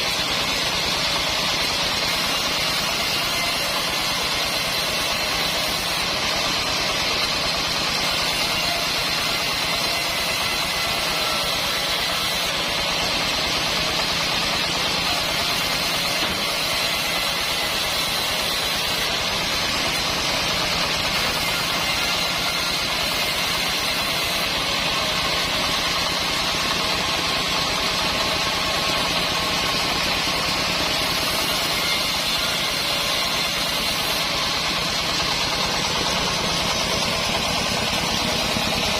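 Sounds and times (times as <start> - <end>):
band sawmill drone: 0.0 - 38.9.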